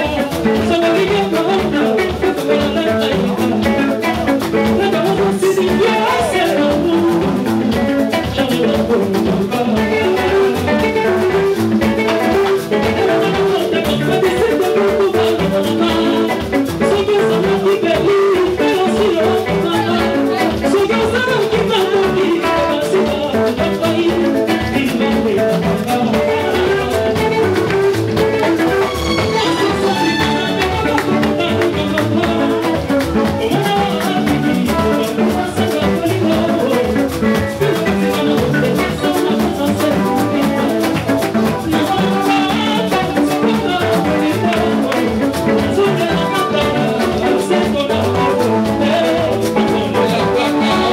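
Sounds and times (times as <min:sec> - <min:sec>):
live dance band playing: 0:00.0 - 0:50.9.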